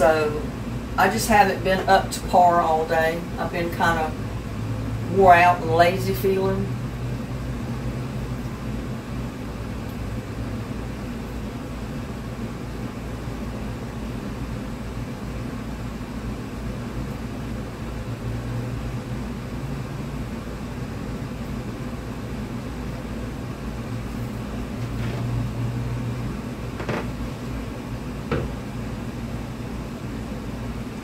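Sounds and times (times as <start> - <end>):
fan humming: 0.0 - 31.0.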